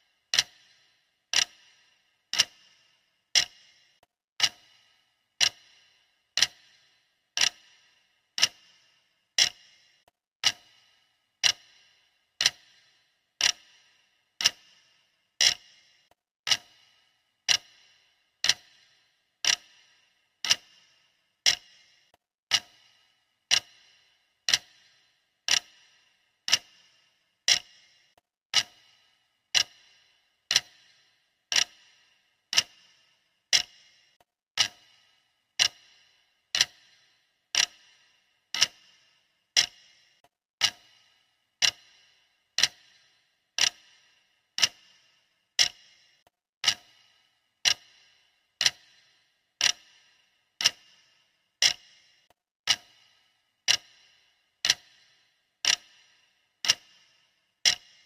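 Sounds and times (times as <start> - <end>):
clock ticking: 0.0 - 58.0.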